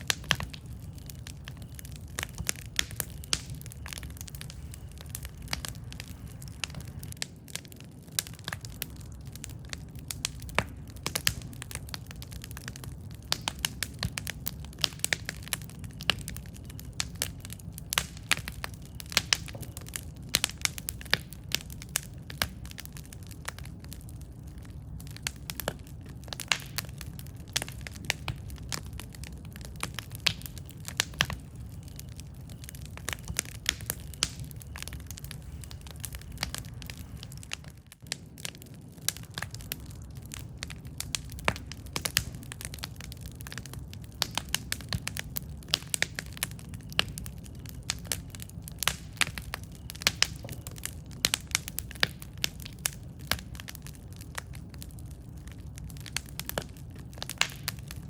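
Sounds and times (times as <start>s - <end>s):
low rumble of flames: 0.0s - 58.0s
wood crackling and popping: 0.0s - 58.0s.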